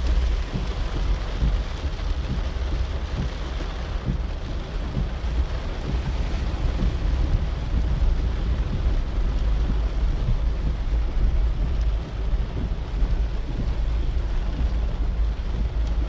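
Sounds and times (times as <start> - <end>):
heavy rain: 0.0 - 16.0
wind rumbling on microphone: 0.0 - 16.0.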